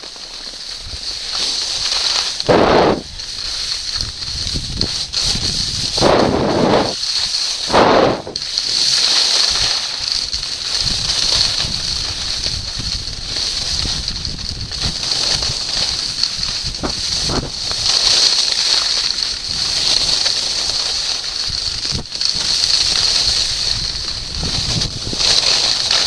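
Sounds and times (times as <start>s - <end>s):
skis scraping over packed snow: 0.0s - 26.0s
wind rumbling on microphone: 0.8s - 26.0s.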